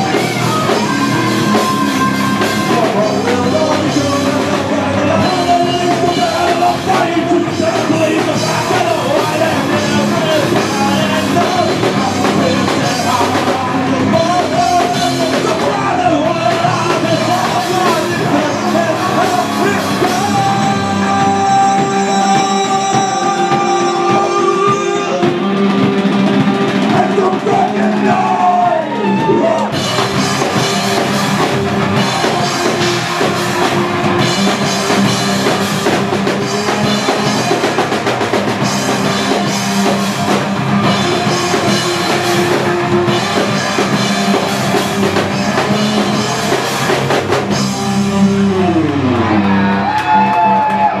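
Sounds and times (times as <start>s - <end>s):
rock band playing live: 0.0s - 51.0s.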